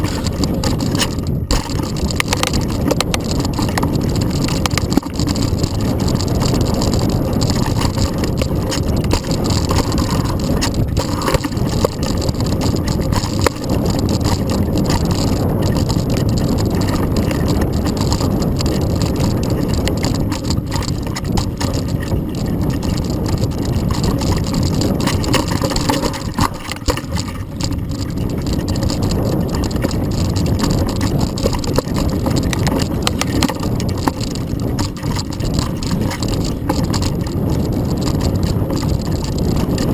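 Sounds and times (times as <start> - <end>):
bike and camera mount rattling: 0.0 - 39.9
bike knocking over bumps: 0.0 - 39.9
bike tyres rumbling over dirt: 0.0 - 39.9.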